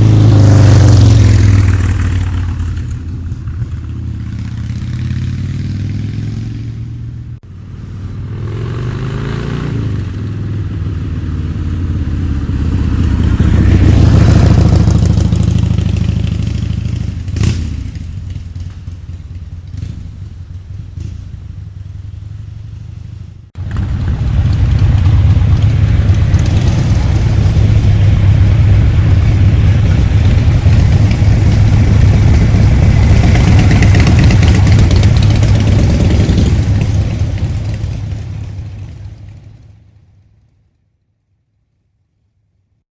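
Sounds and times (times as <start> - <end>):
motorcycle engines revving: 0.0 - 40.2.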